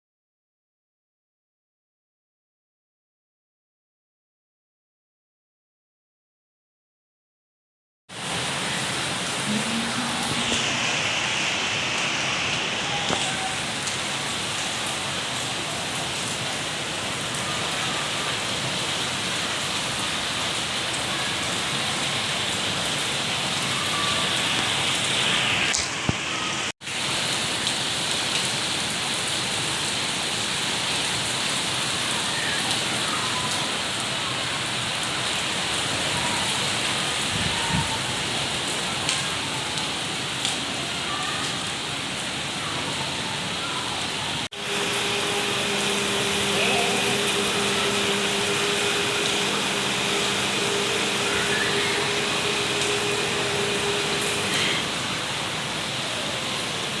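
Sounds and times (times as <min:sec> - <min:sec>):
heavy rain pattering: 0:08.2 - 0:57.0.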